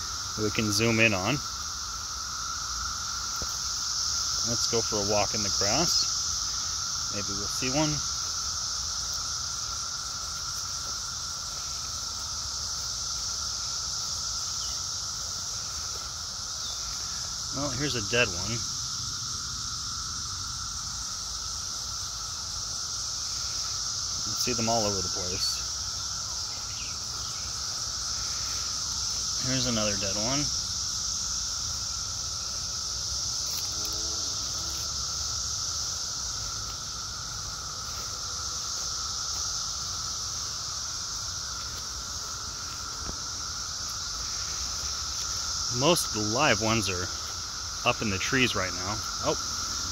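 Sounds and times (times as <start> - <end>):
cicadas droning: 0.0 - 49.9.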